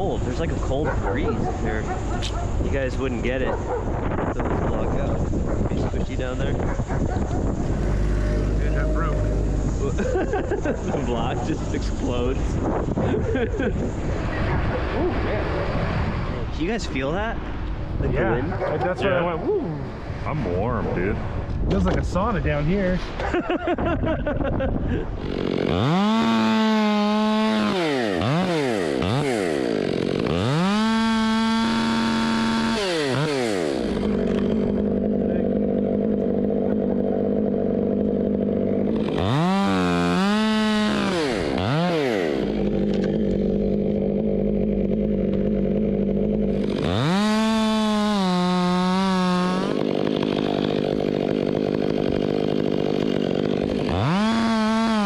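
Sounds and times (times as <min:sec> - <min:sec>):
chainsaw revving and idling: 0:00.0 - 0:14.2, 0:25.1 - 0:55.0.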